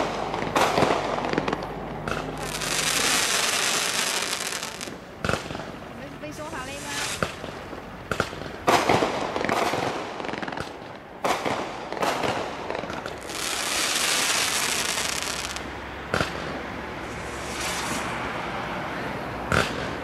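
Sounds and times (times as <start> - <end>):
firework bangs: 0.0 - 18.2, 19.4 - 20.0
firework hiss: 0.0 - 18.4.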